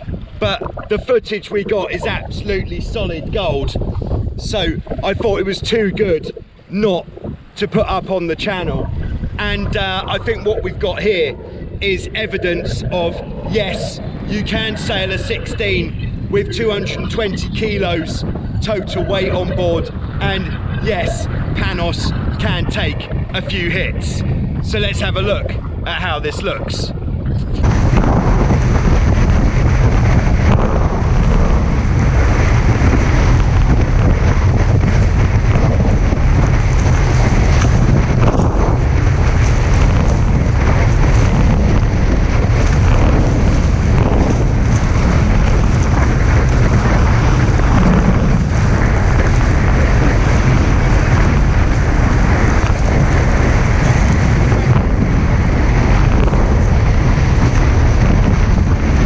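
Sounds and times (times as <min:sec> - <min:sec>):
strong wind buffeting microphone: 0:00.0 - 0:59.0
water rushing past hulls: 0:00.0 - 0:59.0.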